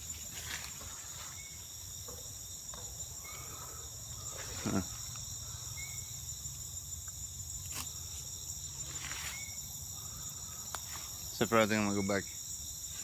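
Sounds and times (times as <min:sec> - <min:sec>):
insects shrilling: 0:00.0 - 0:13.0.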